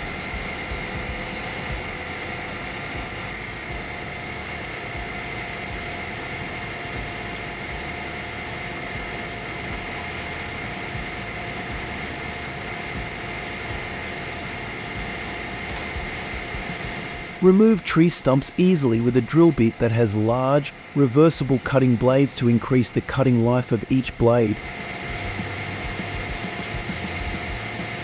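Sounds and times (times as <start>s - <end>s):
heavy machinery engine running: 0.0s - 28.0s
high-pitched whine: 0.0s - 28.0s.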